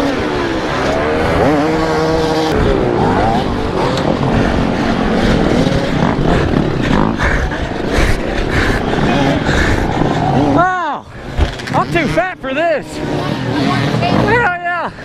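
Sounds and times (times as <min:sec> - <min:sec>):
other dirt bike engines: 0:00.0 - 0:15.0
pit bike engine revving: 0:00.0 - 0:15.0.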